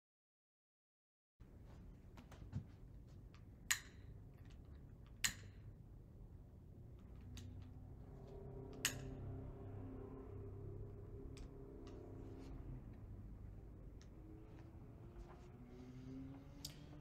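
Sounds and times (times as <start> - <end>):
quiet room hum: 1.4 - 17.0.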